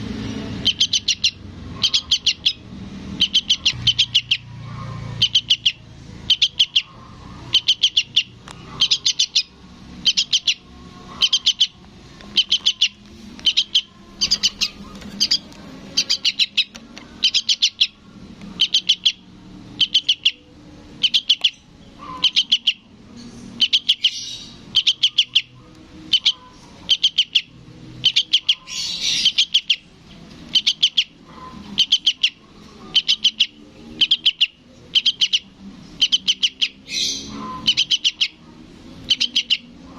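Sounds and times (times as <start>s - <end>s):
young bird begging calls: 0.6s - 2.6s, 3.2s - 4.5s, 5.2s - 18.0s, 18.6s - 19.2s, 19.8s - 22.9s, 23.6s - 25.5s, 26.1s - 29.9s, 30.5s - 38.4s, 39.0s - 39.8s.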